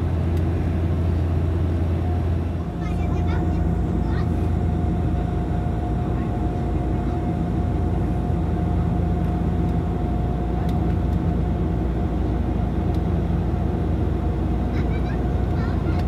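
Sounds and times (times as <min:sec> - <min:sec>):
aircraft cabin engine hum: 0:00.0 - 0:16.0
thin engine whine: 0:00.0 - 0:16.0.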